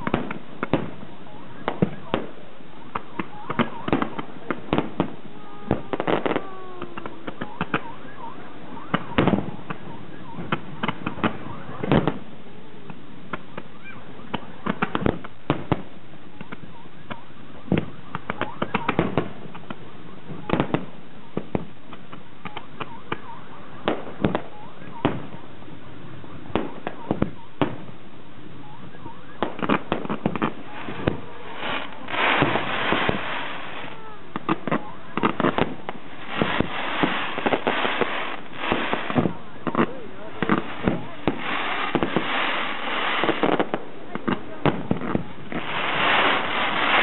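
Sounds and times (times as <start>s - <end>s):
fireworks bangs: 0.0s - 47.0s.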